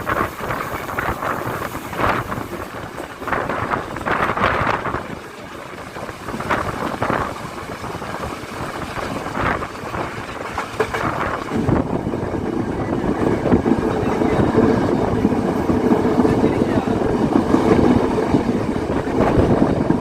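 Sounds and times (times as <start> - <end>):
train rumbling on tracks: 0.0 - 20.0
wind on microphone: 0.0 - 20.0.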